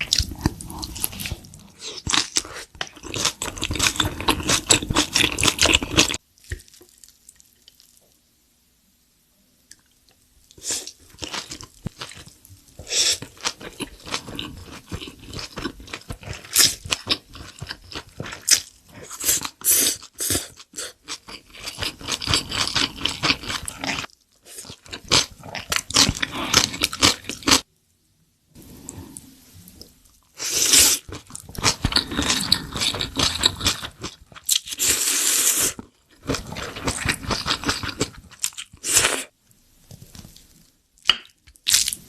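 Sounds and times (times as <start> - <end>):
crunching chews of crispy food: 0.0 - 8.2, 9.7 - 27.7, 30.5 - 39.3.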